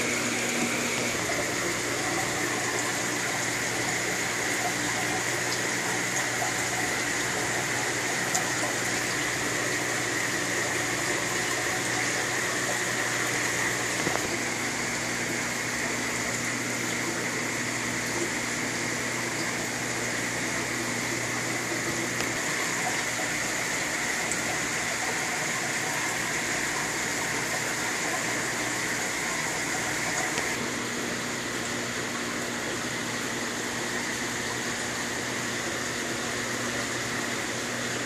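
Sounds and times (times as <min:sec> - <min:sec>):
low electric hum: 0:00.0 - 0:38.0
running water and pump: 0:00.0 - 0:38.0.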